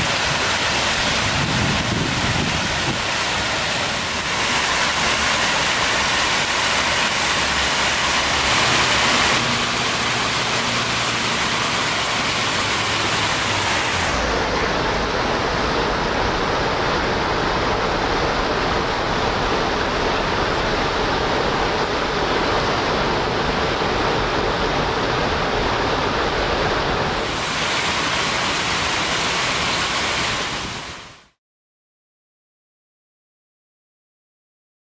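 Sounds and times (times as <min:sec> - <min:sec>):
fountain water splashing: 0:00.0 - 0:31.4.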